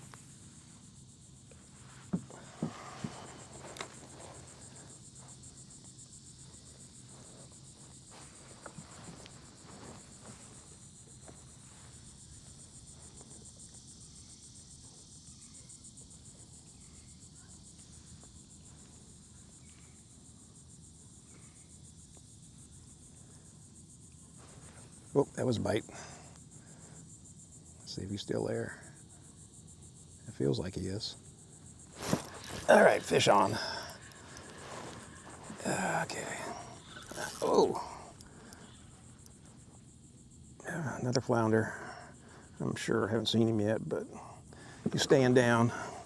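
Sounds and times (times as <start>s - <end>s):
insect chorus trilling: 0.0s - 46.0s.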